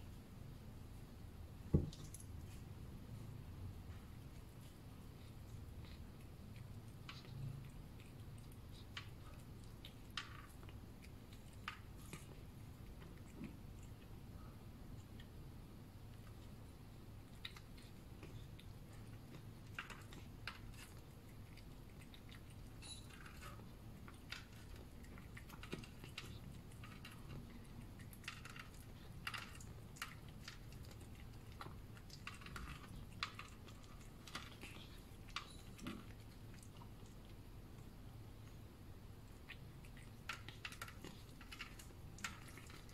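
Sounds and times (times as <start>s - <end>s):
cat eating wet food: 0.0s - 42.9s
low steady hum: 0.0s - 42.9s.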